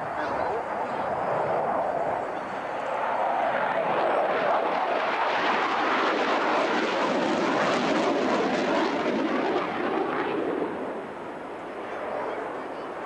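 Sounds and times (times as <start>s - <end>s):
jet engines roaring overhead: 0.0s - 13.0s.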